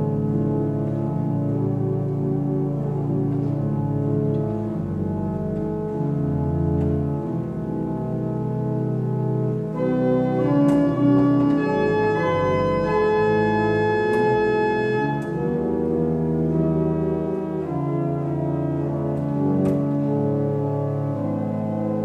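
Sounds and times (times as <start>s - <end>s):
pipe organ chords: 0.0s - 22.0s.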